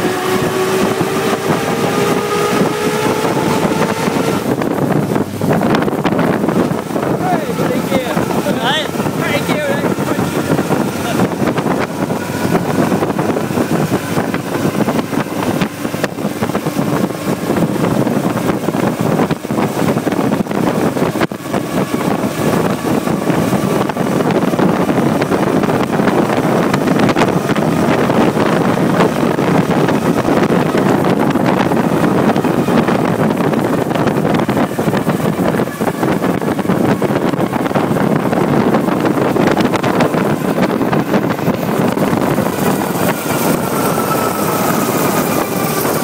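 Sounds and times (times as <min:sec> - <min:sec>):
racing car engine at speed: 0:00.0 - 0:46.0
wind buffeting microphone: 0:00.0 - 0:46.0.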